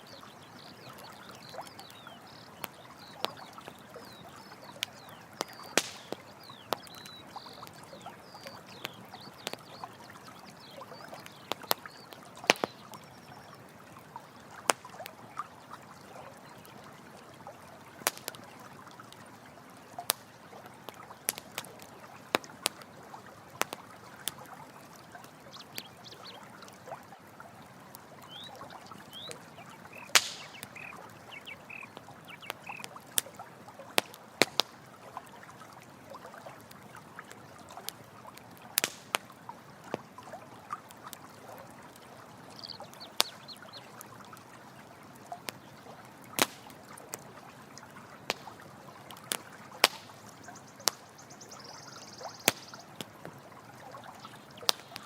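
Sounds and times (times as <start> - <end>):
campfire crackling and popping: 0.0 - 55.0
running water flowing: 0.0 - 55.0.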